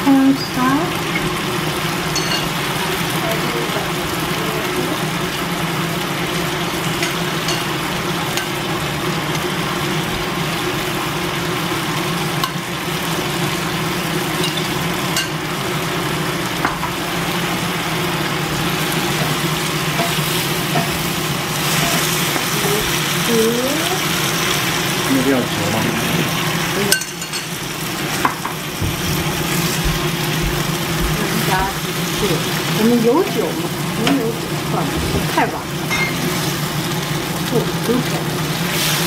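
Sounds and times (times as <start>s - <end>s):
food sizzling in a wok: 0.0s - 39.0s.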